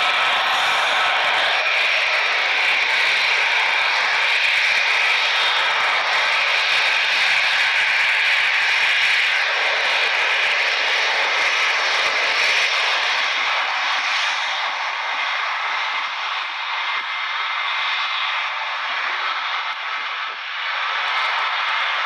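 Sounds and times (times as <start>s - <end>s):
jet engines taxiing: 0.0s - 22.0s.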